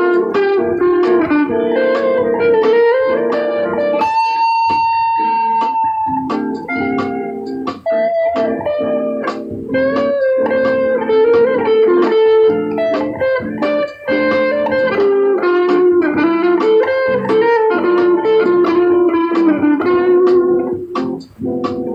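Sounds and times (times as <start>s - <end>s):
electric guitar melody: 0.0s - 21.9s.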